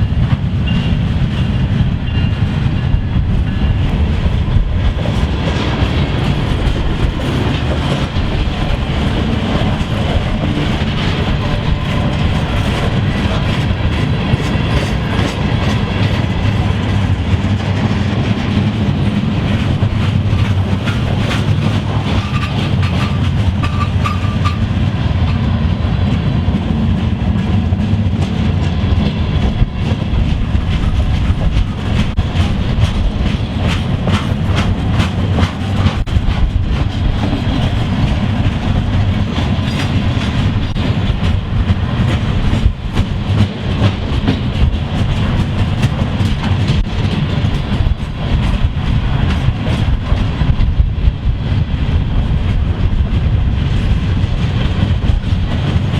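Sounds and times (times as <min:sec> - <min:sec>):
wheels clicking over rail joints: 0:00.0 - 0:25.4, 0:26.0 - 0:55.9
train rumbling past: 0:00.0 - 0:55.9.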